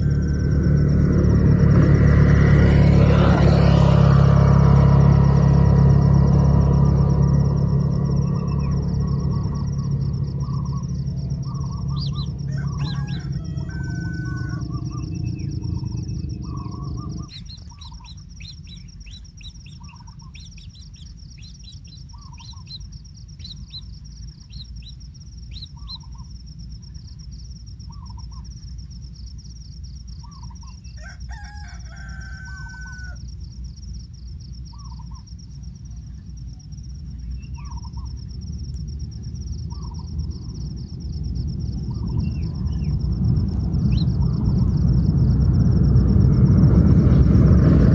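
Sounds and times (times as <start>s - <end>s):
wild birds calling: 0.0s - 28.6s, 30.1s - 33.4s, 34.6s - 35.4s, 37.1s - 38.3s, 39.4s - 46.3s
low rumbling noise: 0.0s - 31.0s, 32.5s - 47.9s
pulsing insect trill: 0.0s - 47.9s.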